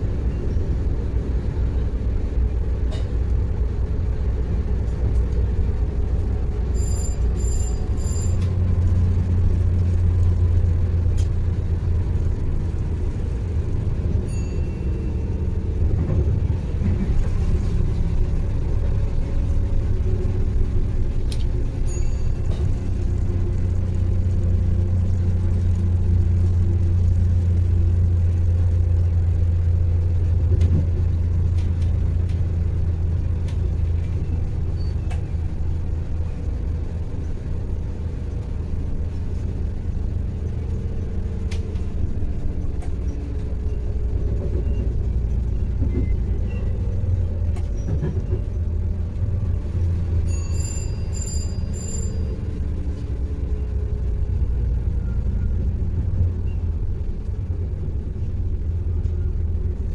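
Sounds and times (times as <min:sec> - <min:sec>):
diesel train engine drone: 0:00.0 - 0:59.9
rail rumble: 0:00.0 - 0:59.9.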